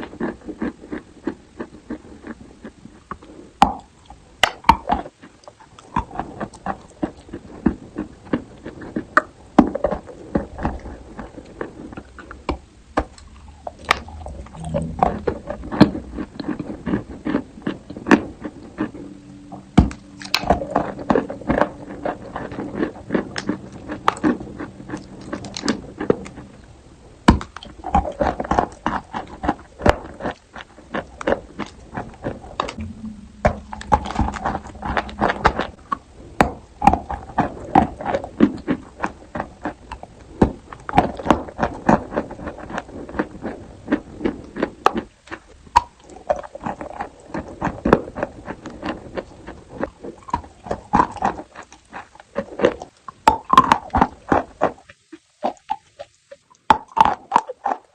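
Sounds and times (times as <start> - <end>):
chalk being chewed: 0.0 - 26.7, 36.4 - 57.9.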